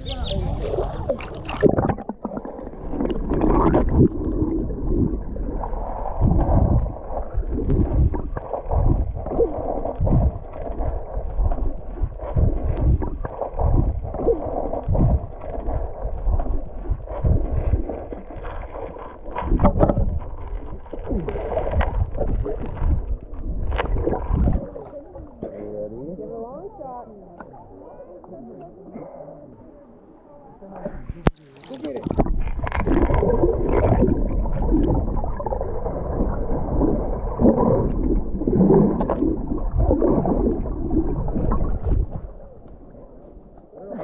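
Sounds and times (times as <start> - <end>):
underwater sloshing and gurgling: 0.0 - 44.0.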